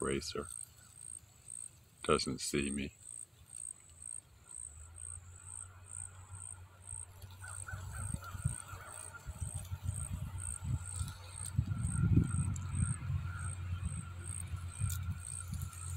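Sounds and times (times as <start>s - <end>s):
insect chirping: 0.0s - 15.9s.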